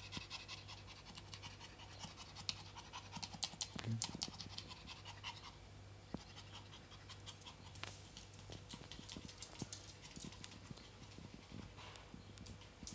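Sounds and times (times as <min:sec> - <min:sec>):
small dog panting: 0:00.0 - 0:12.8.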